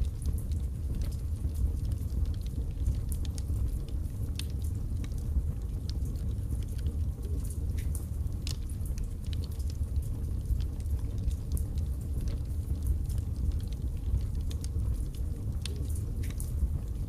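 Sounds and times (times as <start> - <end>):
fire rumbling: 0.0 - 17.0
wood crackling and popping: 0.0 - 17.0.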